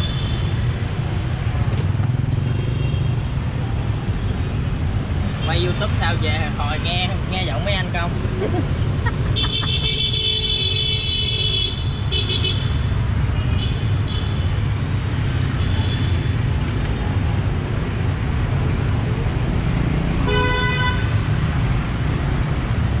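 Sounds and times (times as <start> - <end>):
street traffic rumbling: 0.0 - 23.0.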